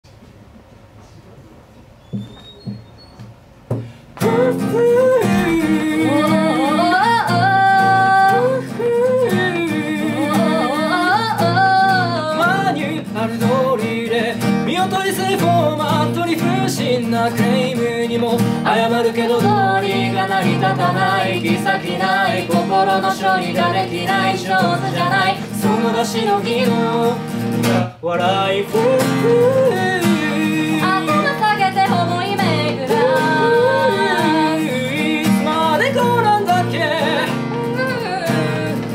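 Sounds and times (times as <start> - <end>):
acoustic guitar: 0.0 - 38.9
man and woman singing: 3.8 - 38.9.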